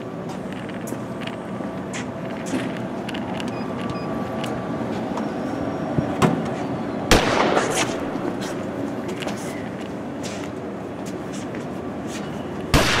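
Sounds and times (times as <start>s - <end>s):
outdoor rumble: 0.0s - 13.0s.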